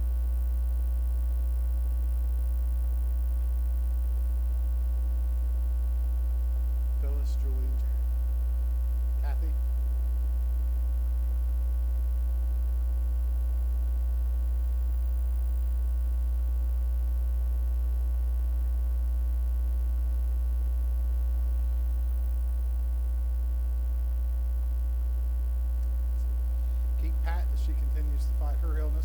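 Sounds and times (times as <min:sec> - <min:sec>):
electrical mains hum with buzzing: 0:00.0 - 0:29.0.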